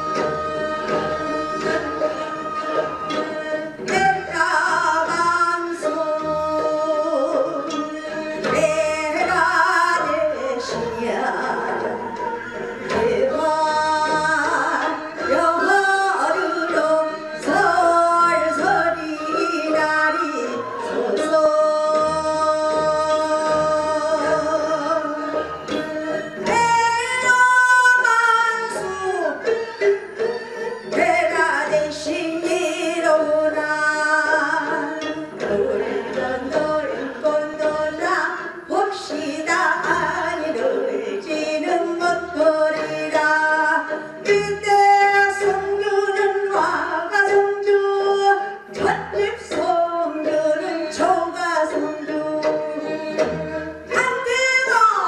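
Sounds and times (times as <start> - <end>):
woman singing into microphone: 0.0 - 29.6, 30.8 - 55.0.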